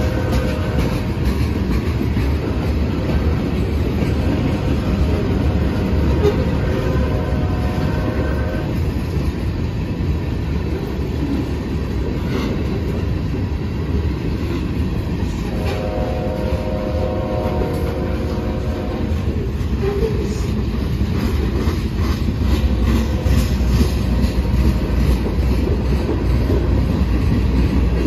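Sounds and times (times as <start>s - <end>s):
freight train rolling past: 0.0s - 28.0s
steel wheels clattering on rails: 0.0s - 28.0s.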